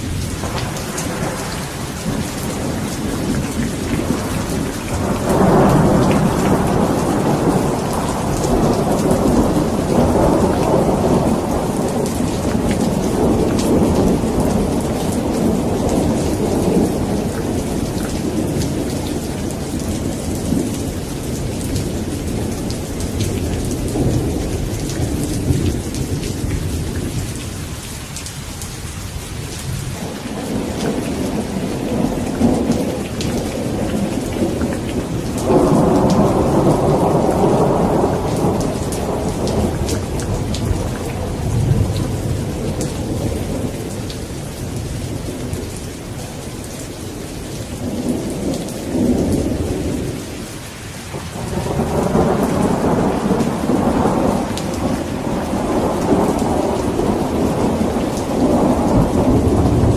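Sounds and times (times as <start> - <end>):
rolling thunder: 0.0 - 27.7, 29.6 - 50.5, 51.1 - 59.9
rain falling: 0.0 - 59.9.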